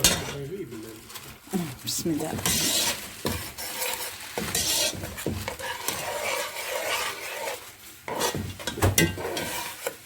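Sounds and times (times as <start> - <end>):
spoon scraping a pot: 0.0 - 1.3, 1.9 - 10.0
seeds sizzling in oil: 0.0 - 10.0.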